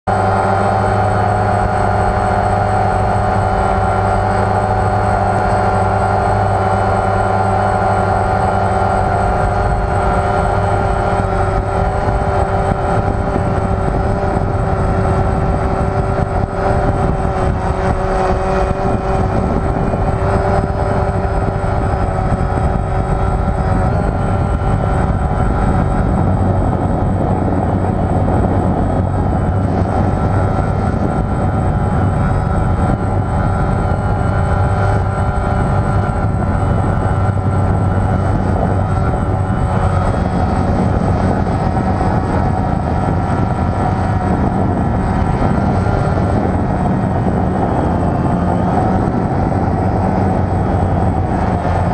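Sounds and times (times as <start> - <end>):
drone propellers whining: 0.1 - 51.9.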